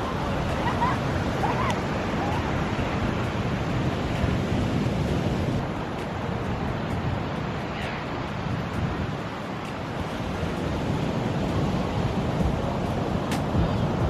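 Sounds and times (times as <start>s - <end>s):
ocean surf on beach: 0.0s - 14.0s
wind rumbling on microphone: 0.0s - 14.0s.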